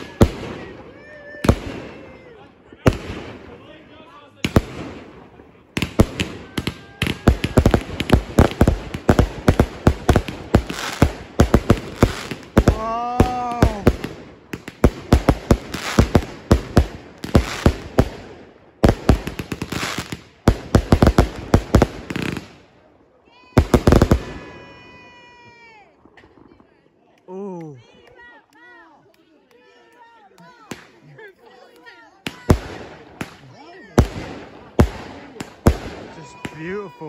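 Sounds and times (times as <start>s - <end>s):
firework bangs and crackles: 0.0s - 27.3s, 30.7s - 31.1s, 32.2s - 37.0s.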